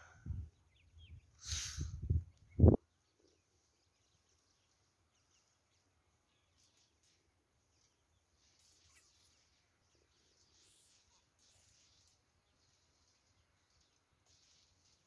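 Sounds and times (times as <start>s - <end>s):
faint high bird chirps: 0.0s - 15.0s
faint outdoor ambience: 0.0s - 15.0s.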